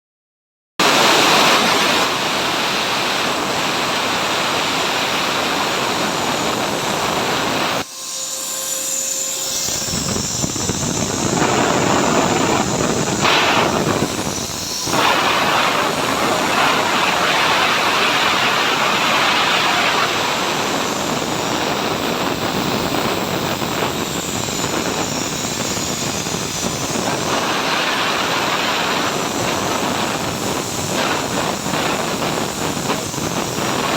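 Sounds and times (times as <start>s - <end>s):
plasma cutting torch hissing: 0.8s - 33.9s.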